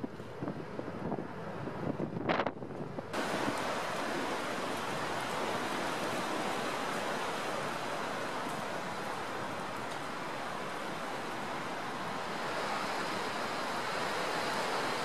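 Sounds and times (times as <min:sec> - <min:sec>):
jet engines rushing on approach: 0:02.8 - 0:15.0.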